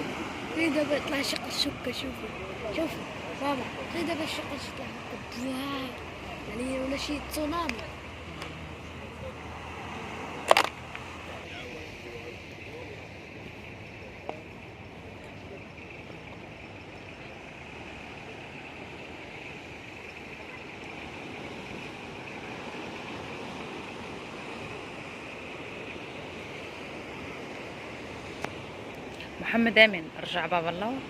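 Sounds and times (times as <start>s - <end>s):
sea waves washing on shore: 0.0s - 31.0s.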